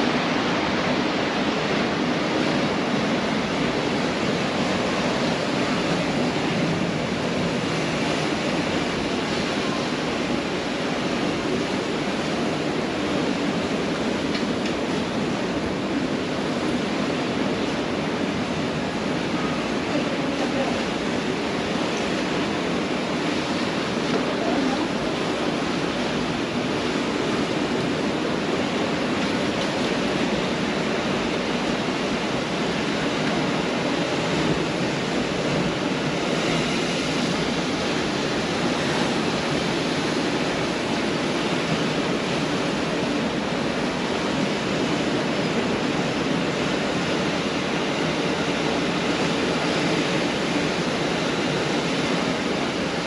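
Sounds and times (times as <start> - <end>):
surf washing onto beach: 0.0 - 53.0.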